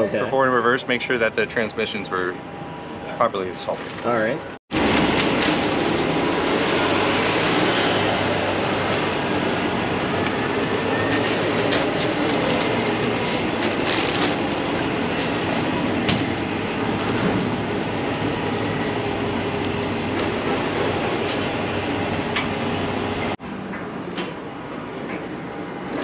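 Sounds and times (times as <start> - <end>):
machinery humming and rumbling: 0.0 - 26.0.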